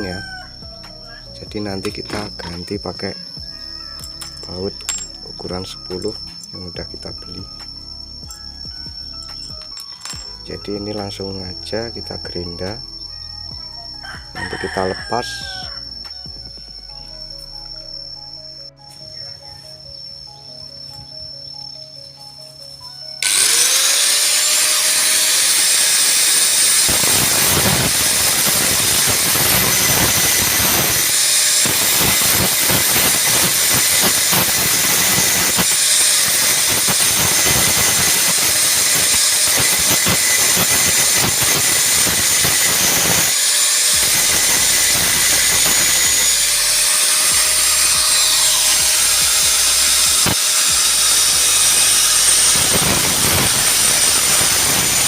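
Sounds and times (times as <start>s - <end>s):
angle grinder grinding steel: 0.0s - 12.8s, 14.0s - 16.6s, 23.2s - 55.0s.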